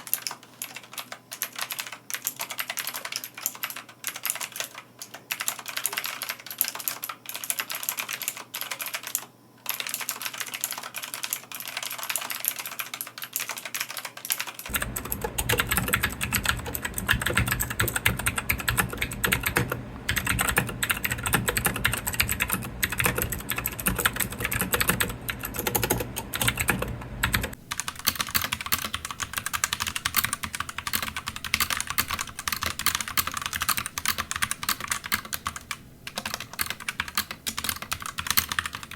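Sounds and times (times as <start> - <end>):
fast typing on mechanical keyboards: 0.0 - 38.9.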